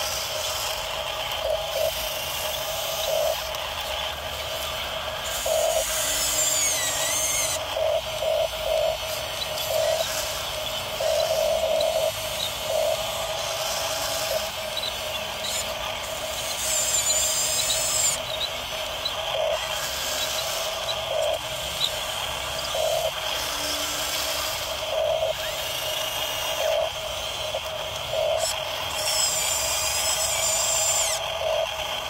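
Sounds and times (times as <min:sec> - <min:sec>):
small electric motors whining: 0:00.0 - 0:32.0.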